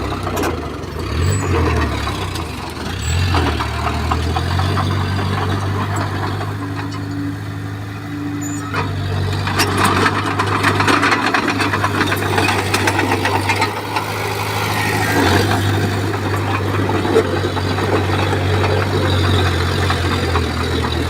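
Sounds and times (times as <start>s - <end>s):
bulldozer diesel engine: 0.0s - 21.0s.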